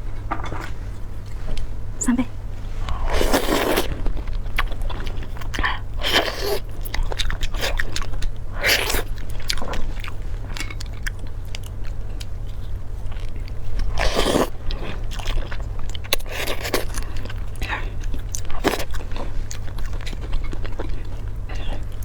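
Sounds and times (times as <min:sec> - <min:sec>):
crunchy chewing: 0:02.6 - 0:22.0.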